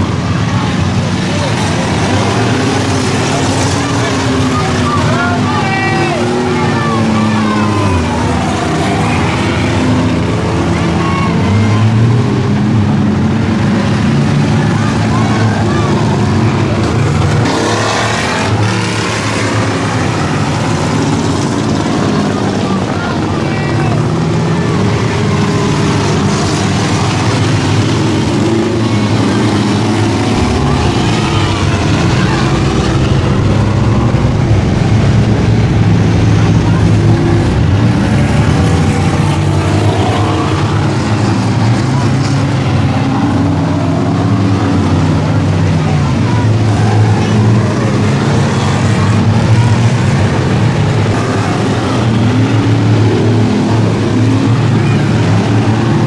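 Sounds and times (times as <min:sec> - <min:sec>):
car accelerating: 0:00.0 - 0:56.0
race car engines: 0:00.0 - 0:56.0
tyre and chassis noise: 0:00.0 - 0:56.0.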